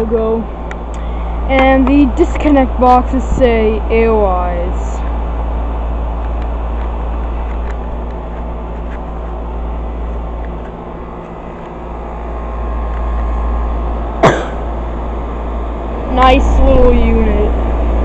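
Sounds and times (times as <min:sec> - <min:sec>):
air conditioner unit humming: 0:00.0 - 0:18.0.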